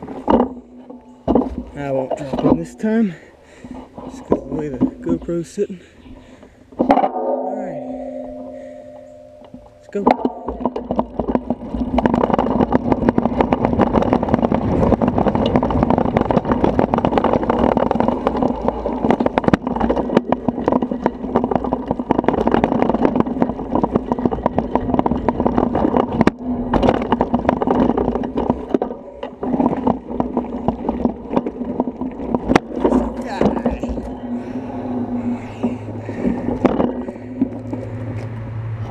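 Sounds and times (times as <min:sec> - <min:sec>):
bicycle tyres rumbling on dirt: 0:00.0 - 0:38.9
bike rattling over bumps: 0:00.0 - 0:38.9.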